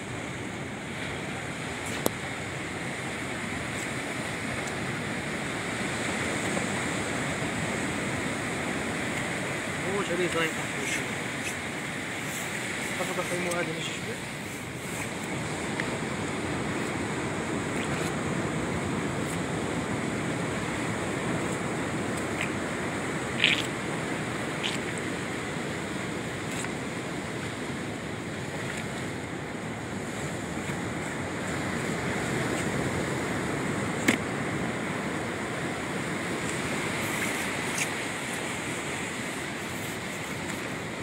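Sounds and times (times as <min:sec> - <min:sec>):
sea surf washing on shore: 0:00.0 - 0:41.0.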